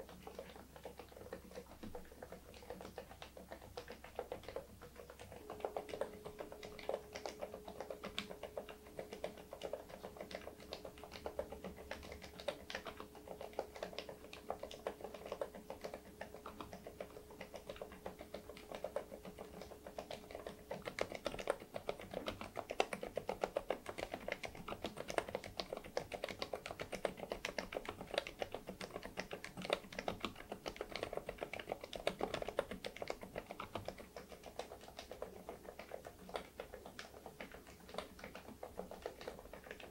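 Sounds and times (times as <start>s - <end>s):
soft muffled keyboard keystrokes: 0.0s - 39.9s.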